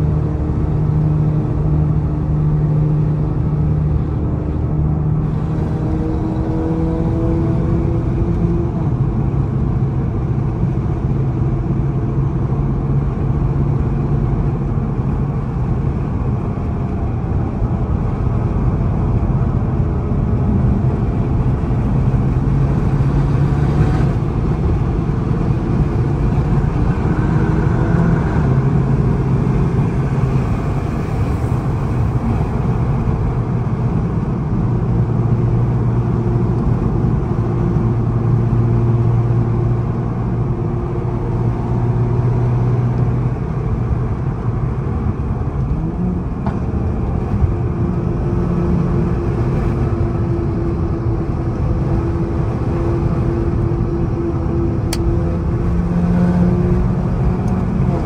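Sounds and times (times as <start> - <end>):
low exhaust drone: 0.0 - 58.0
road noise: 0.0 - 58.0.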